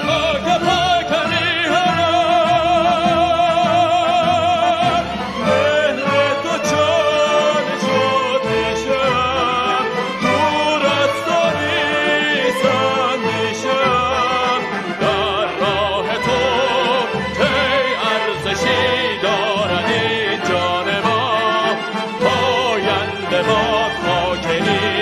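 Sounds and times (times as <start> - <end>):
person singing with vibrato: 0.0 - 25.0.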